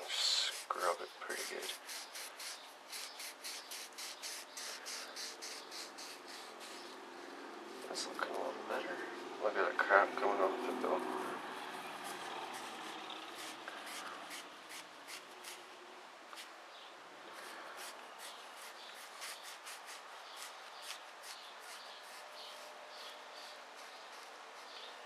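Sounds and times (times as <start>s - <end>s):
scratchy scrubbing strokes: 0.0s - 9.3s, 10.1s - 15.7s, 17.3s - 25.0s.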